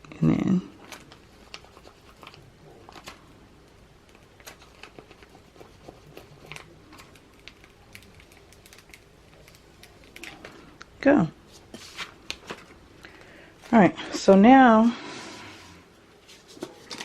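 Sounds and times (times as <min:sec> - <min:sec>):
vinyl and tape crackling: 0:00.7 - 0:14.4.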